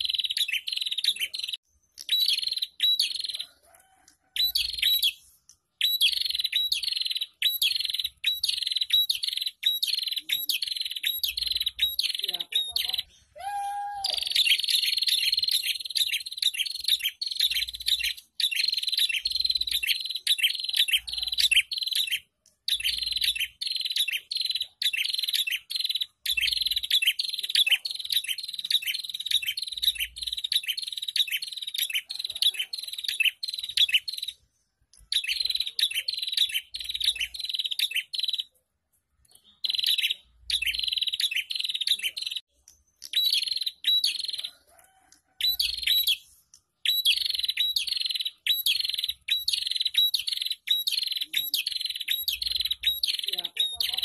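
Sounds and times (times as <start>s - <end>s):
bird chirping fast and sharp: 0.0s - 3.5s, 4.4s - 13.4s, 14.2s - 34.4s, 35.0s - 38.6s, 39.3s - 44.6s, 45.4s - 54.0s.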